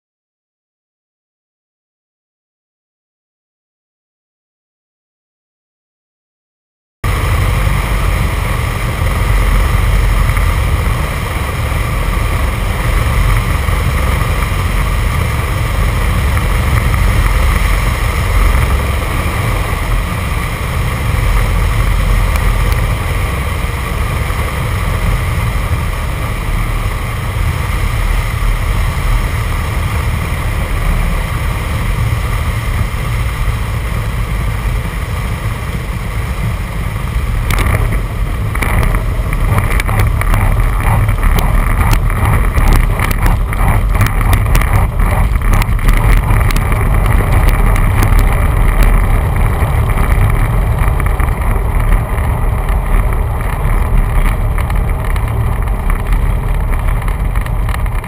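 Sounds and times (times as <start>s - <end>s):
aircraft engine and propeller drone: 7.0s - 56.5s.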